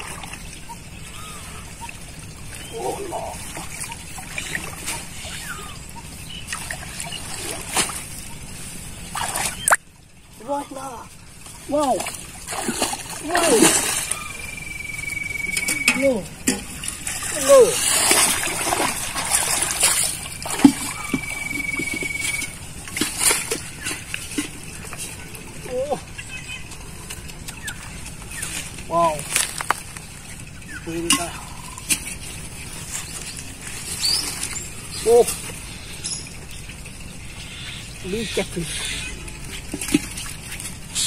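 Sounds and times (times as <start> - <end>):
water trickling through net: 0.0 - 38.2
small water splashes: 0.0 - 41.0.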